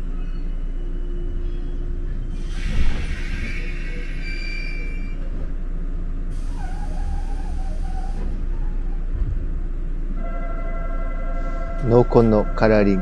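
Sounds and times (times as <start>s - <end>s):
train car rumble and hum: 0.0s - 13.0s.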